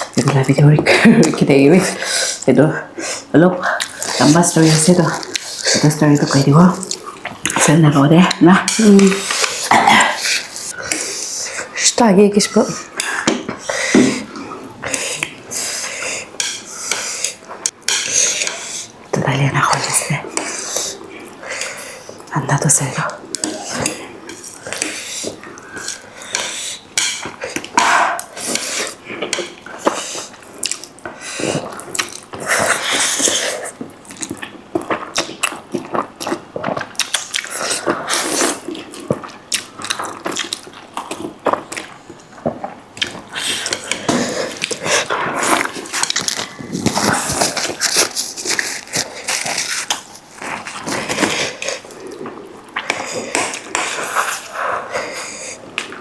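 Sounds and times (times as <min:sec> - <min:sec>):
slurping and chewing noodles: 0:01.2 - 0:19.1, 0:19.7 - 0:56.0.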